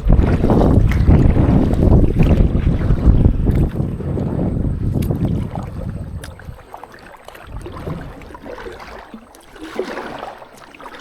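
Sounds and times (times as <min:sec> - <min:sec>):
wind buffeting microphone: 0:00.0 - 0:09.2
water splashing and sloshing: 0:00.0 - 0:11.0.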